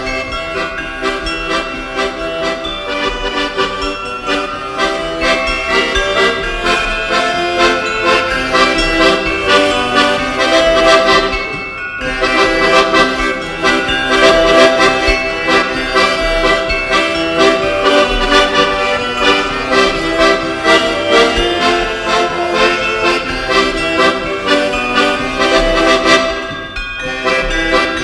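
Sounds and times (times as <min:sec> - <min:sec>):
folk music led by accordion: 0:00.0 - 0:28.0.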